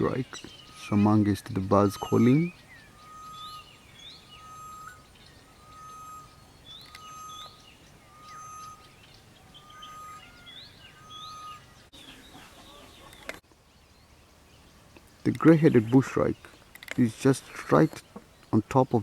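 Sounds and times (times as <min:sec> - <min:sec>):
birds chirping and twittering: 0:00.0 - 0:19.0
bush-shrike calling: 0:00.0 - 0:19.0.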